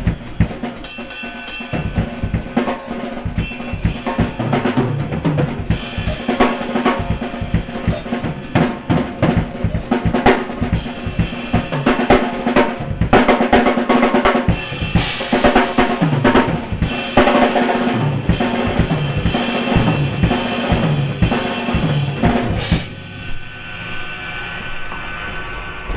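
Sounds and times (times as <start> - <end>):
drum kit played fast: 0.0 - 23.6
cymbal crashes: 0.0 - 25.9.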